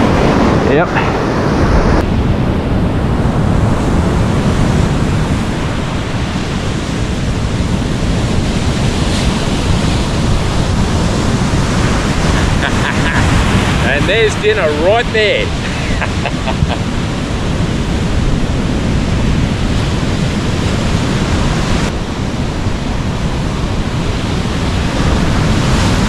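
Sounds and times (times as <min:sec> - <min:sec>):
ocean surf: 0:00.0 - 0:26.0
wind buffeting microphone: 0:00.0 - 0:26.0.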